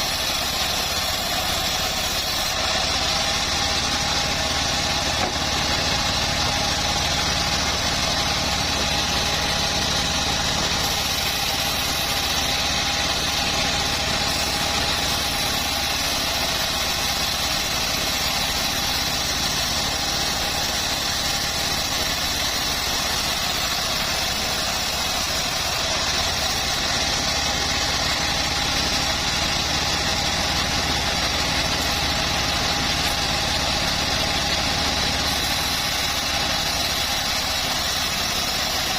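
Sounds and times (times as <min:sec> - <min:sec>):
bandsaw mill engine drone: 0:00.0 - 0:38.9
high whine of bandsaw: 0:00.0 - 0:38.9.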